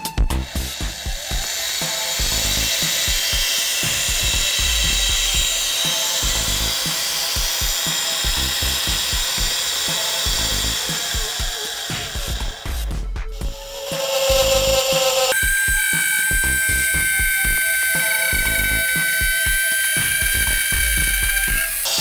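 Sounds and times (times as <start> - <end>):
router motor whining: 0.3 - 12.8, 13.4 - 22.0.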